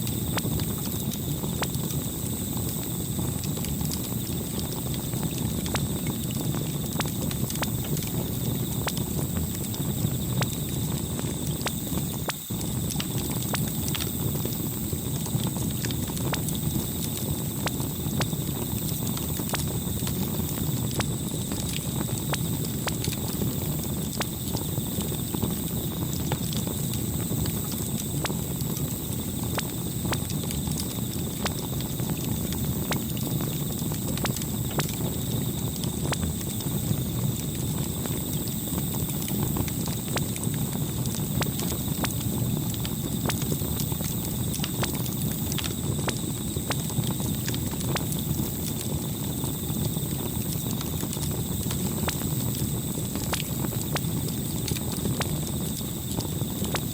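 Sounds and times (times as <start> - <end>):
burning wood crackling and popping: 0.0 - 56.9
low rumble of flames: 0.0 - 56.9.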